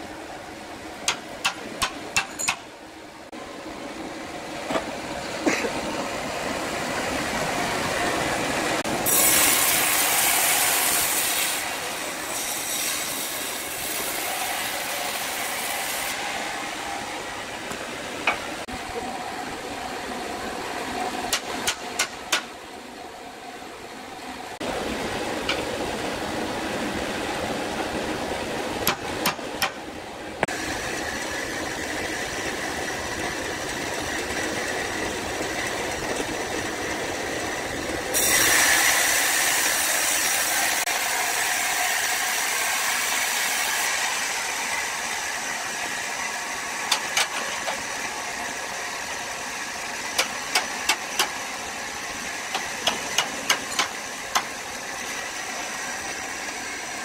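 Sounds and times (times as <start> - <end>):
woodworking machinery running: 0.0 - 57.0
loud hissing noise: 3.6 - 28.6, 30.2 - 57.0.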